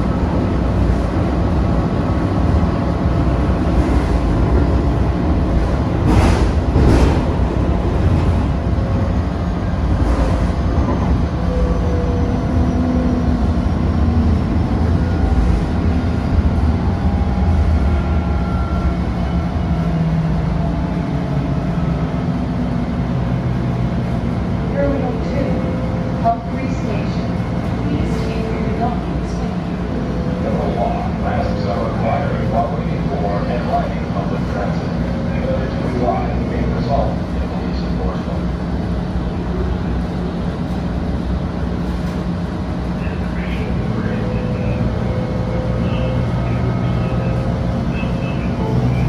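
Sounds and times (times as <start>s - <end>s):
wheels rumbling on rail: 0.0s - 49.0s.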